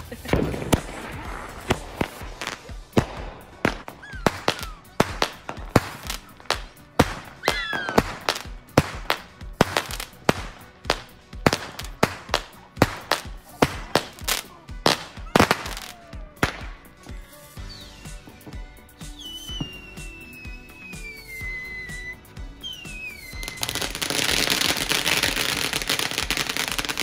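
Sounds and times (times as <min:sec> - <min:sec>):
fireworks bangs: 0:00.0 - 0:17.1, 0:18.0 - 0:27.0.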